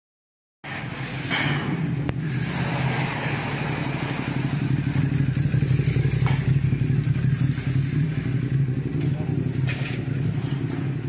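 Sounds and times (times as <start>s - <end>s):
street noise: 0.6s - 11.0s
vehicle engine running: 1.9s - 11.0s.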